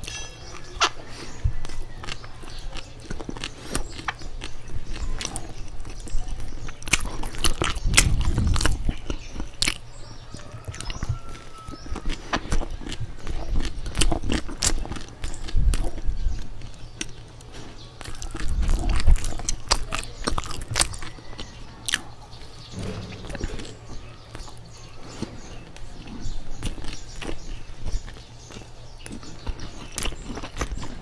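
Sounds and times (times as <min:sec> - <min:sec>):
chewing bread: 0:00.0 - 0:31.0.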